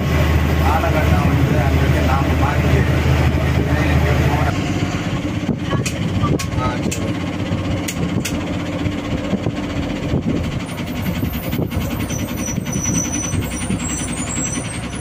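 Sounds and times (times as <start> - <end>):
diesel bus engine rumbling: 0.0 - 15.0.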